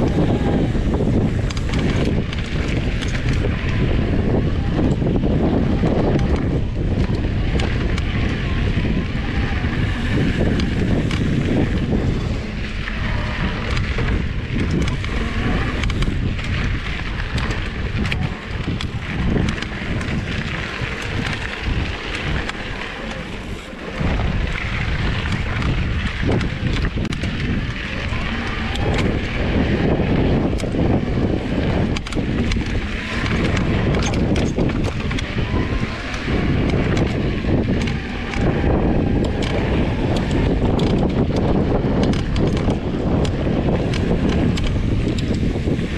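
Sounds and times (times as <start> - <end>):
bike clattering over bumps: 0.0 - 45.9
tyres rumbling over dirt: 0.0 - 45.9
wind buffeting microphone: 0.0 - 45.9.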